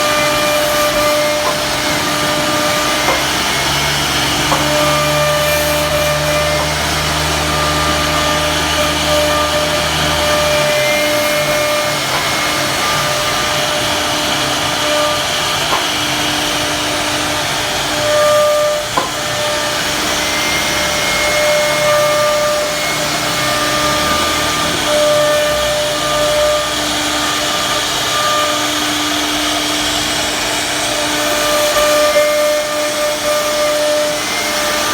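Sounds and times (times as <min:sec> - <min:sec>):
cnc router cutting wood: 0:00.0 - 0:34.9
spindle whine: 0:00.0 - 0:34.9.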